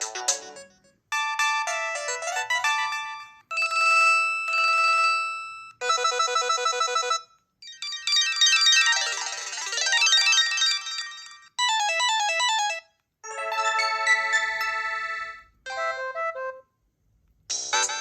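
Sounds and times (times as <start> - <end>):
phone ringtones: 1.1 - 16.3.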